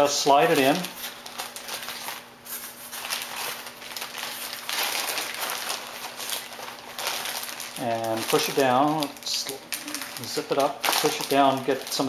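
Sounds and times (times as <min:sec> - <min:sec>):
plastic bag crinkling: 0:00.4 - 0:12.0.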